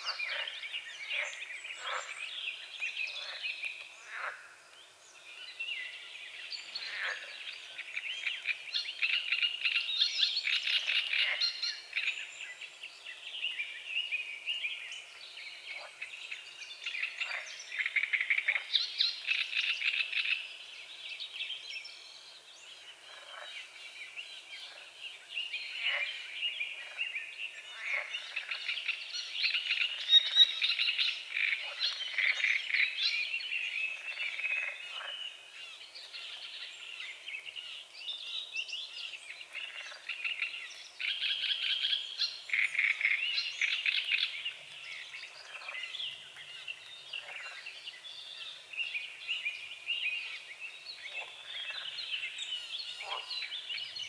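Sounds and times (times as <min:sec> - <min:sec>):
frogs croaking: 0:00.0 - 0:04.8, 0:06.4 - 0:12.5, 0:14.8 - 0:20.7, 0:22.7 - 0:23.8, 0:24.6 - 0:37.2, 0:39.4 - 0:54.0
birds singing: 0:00.0 - 0:54.0.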